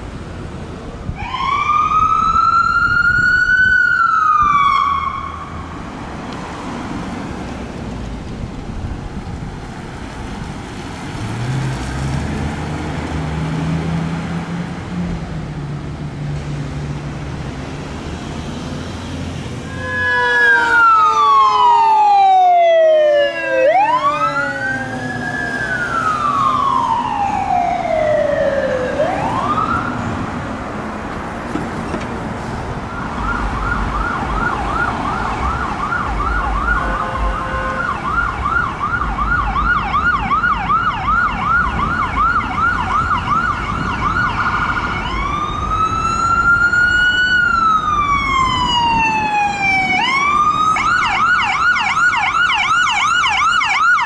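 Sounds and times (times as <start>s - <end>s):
emergency vehicle sirens: 0.0s - 54.0s
passing traffic: 0.0s - 54.0s.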